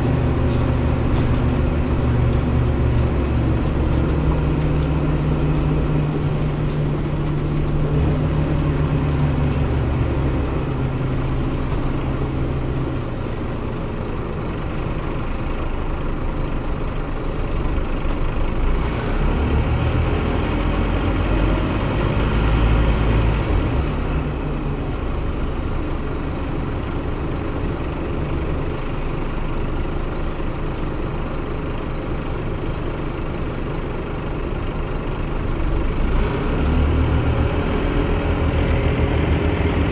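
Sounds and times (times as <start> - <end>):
bus engine running: 0.0 - 39.9
road and body noise: 0.0 - 39.9.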